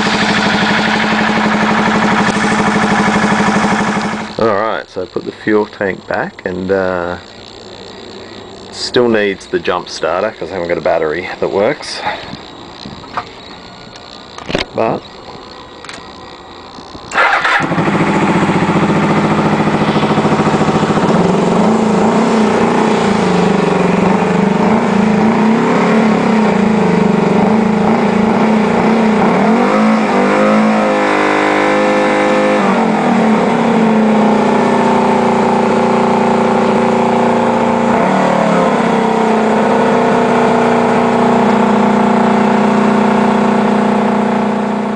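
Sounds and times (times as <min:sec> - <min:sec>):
motorcycle engine starting and running: 0:00.0 - 0:44.9.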